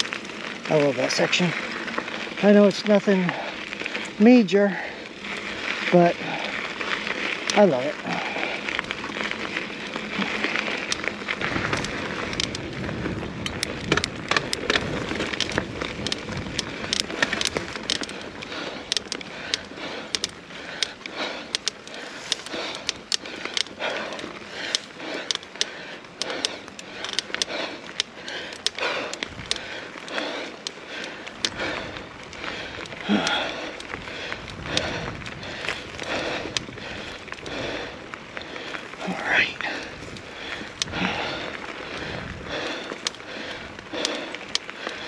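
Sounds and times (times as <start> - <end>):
bike clicks and rattles: 0.0 - 45.0
bike tyres rolling on dirt: 0.0 - 45.0.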